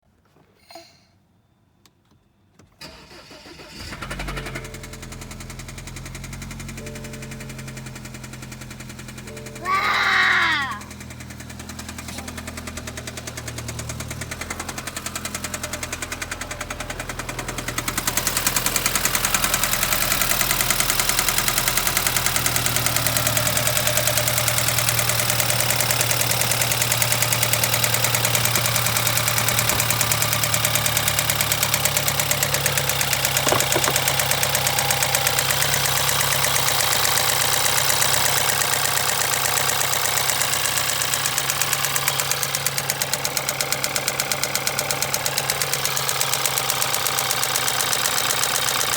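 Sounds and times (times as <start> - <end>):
car engine idling with ticking: 3.8 - 48.9.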